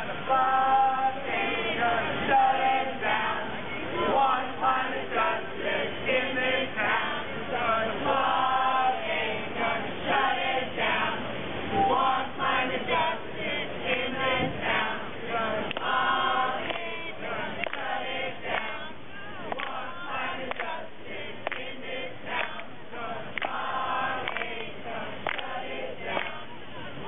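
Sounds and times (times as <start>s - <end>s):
crowd singing together: 0.0s - 27.0s.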